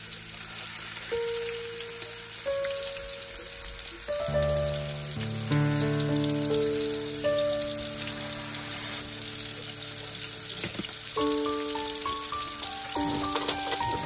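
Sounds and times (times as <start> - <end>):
meat sizzling in a frying pan: 0.0 - 14.0
background music of held notes: 1.0 - 14.0.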